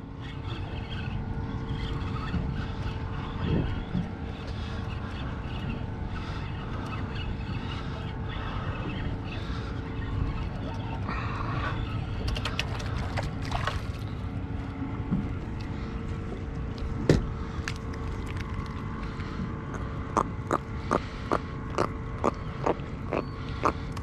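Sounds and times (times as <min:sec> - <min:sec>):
wind and water rumble: 0:00.0 - 0:24.0.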